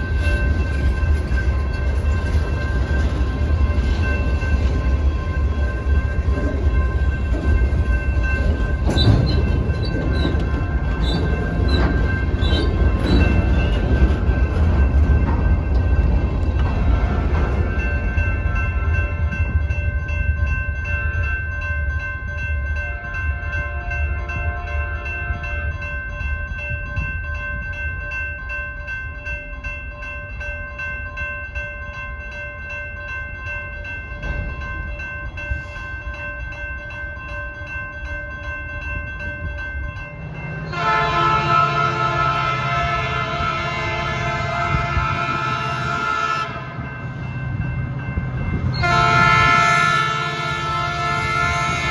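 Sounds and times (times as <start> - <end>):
railroad crossing bells ringing: 0.0 - 51.9.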